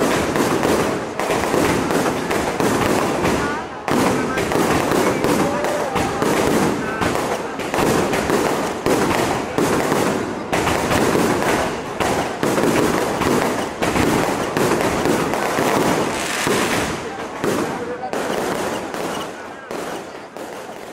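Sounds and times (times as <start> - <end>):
fireworks bangs: 0.0 - 20.9
fireworks crackling: 0.0 - 20.9.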